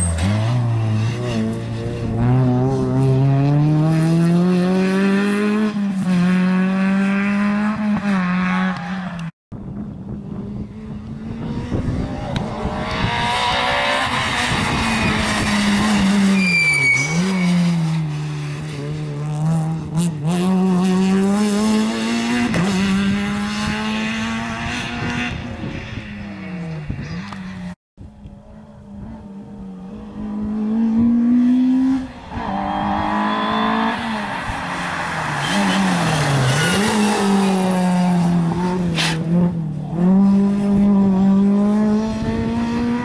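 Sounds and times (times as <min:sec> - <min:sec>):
rally car engine at high revs: 0:00.0 - 0:09.3, 0:11.0 - 0:16.4, 0:17.0 - 0:27.5, 0:28.6 - 0:43.0.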